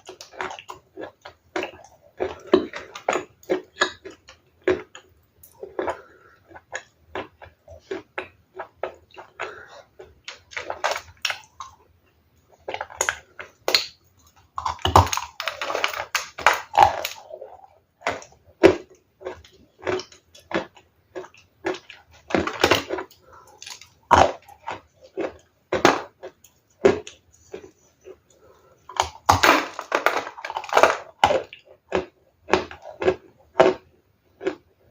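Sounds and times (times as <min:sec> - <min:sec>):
ice being chewed: 0:00.0 - 0:11.9, 0:12.5 - 0:34.9.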